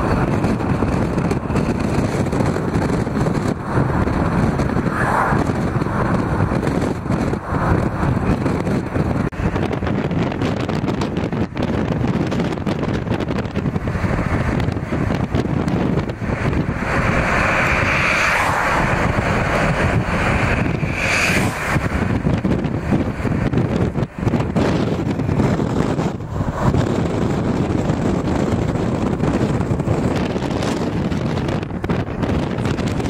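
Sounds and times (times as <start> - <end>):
road and engine rumble: 0.0 - 33.0
wind rushing over microphone: 0.0 - 33.0.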